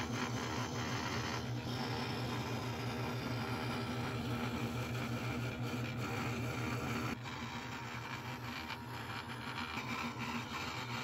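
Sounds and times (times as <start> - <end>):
scroll saw cutting wood: 0.0 - 11.0.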